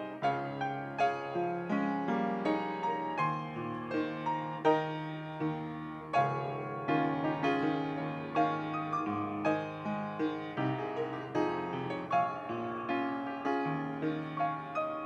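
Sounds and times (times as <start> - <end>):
solo piano piece: 0.0 - 15.0.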